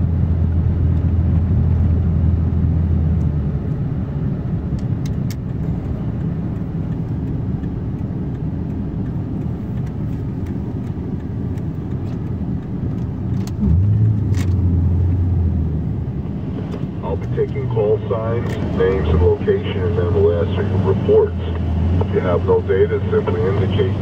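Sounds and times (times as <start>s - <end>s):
pickup truck engine drone: 0.0s - 24.0s
road noise: 0.0s - 24.0s.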